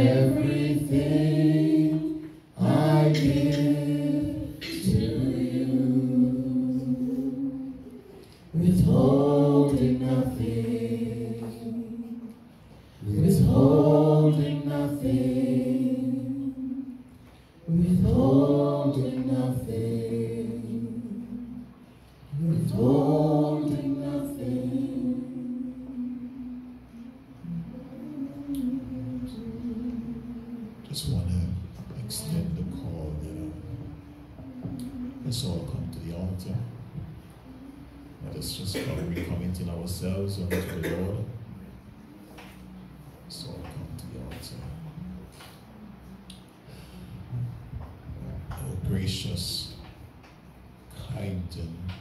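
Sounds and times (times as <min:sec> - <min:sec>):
group singing without instruments: 0:00.0 - 0:50.0.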